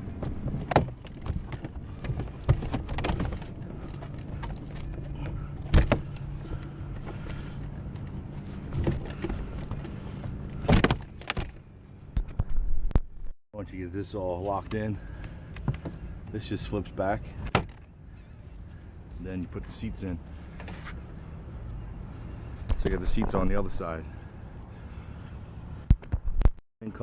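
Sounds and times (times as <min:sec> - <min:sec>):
steady low hum: 0:00.0 - 0:26.4.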